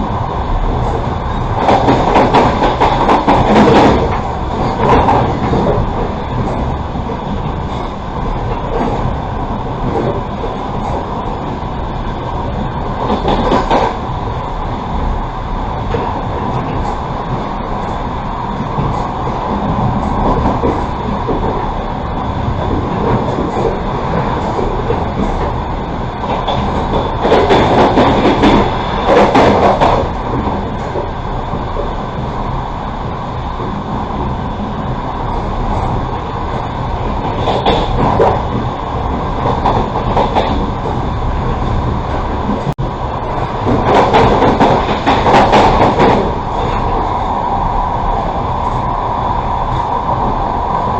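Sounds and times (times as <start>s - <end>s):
train carriage rattling: 0.0s - 50.9s
train wheels rumbling on rail: 0.0s - 50.9s.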